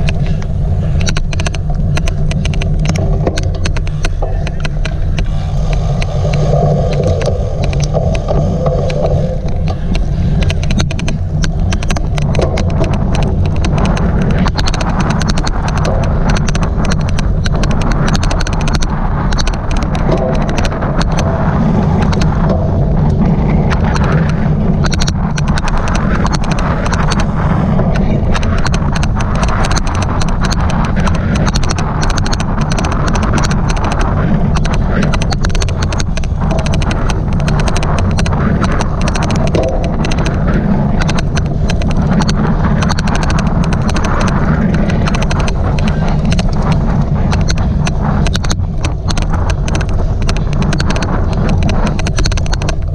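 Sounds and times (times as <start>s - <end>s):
irregular clicking: 0.0s - 52.9s
wind on microphone: 0.0s - 52.9s.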